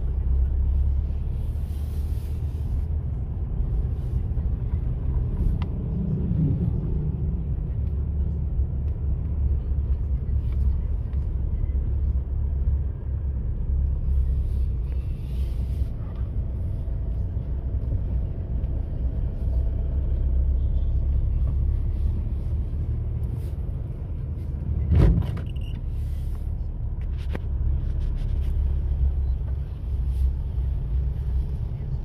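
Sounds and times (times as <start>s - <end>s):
heavy vehicle engine rumbling: 0.0s - 32.0s.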